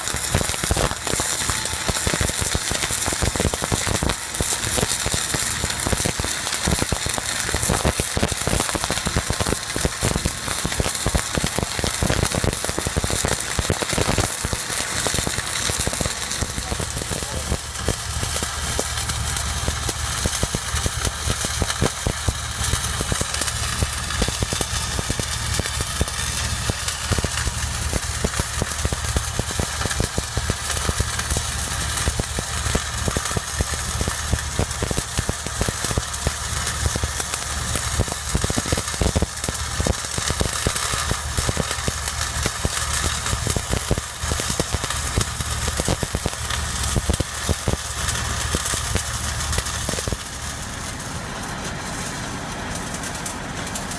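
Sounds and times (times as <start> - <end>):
welding arc crackling: 0.0 - 53.9
engine drone: 0.7 - 53.9.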